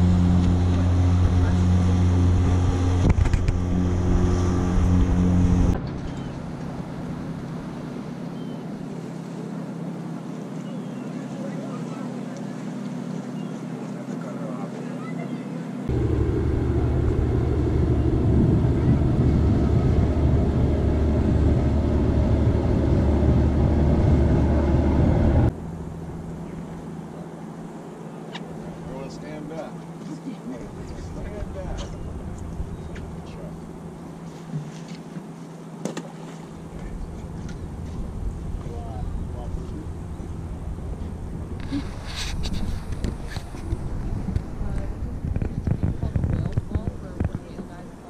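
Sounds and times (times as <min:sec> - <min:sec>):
motorboat engine humming: 0:00.0 - 0:48.0.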